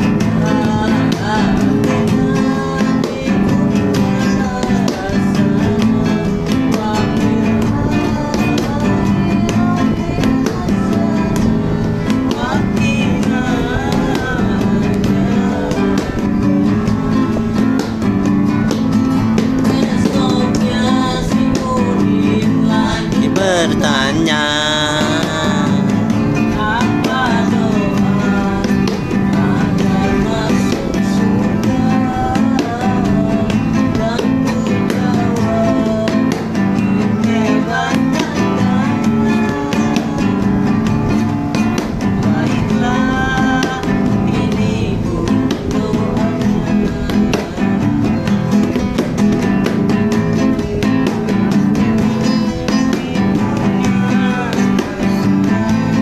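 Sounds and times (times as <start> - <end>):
acoustic guitar strumming: 0.0 - 56.0
person singing: 0.0 - 56.0.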